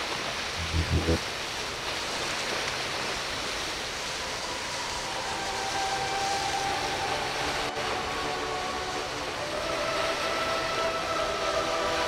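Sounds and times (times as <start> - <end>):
rushing water: 0.0 - 12.0
wind: 0.0 - 12.0
boat engine drone: 0.4 - 1.6, 3.4 - 12.0.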